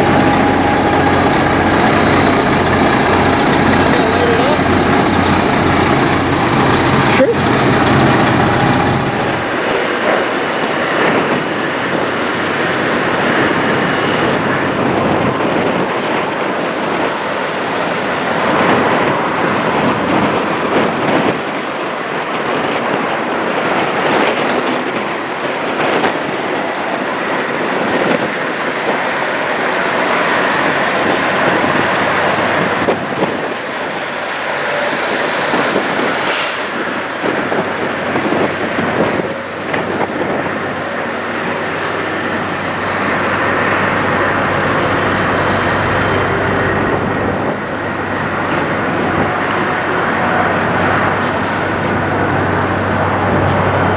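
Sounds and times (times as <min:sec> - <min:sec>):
diesel trucks running: 0:00.0 - 0:53.9.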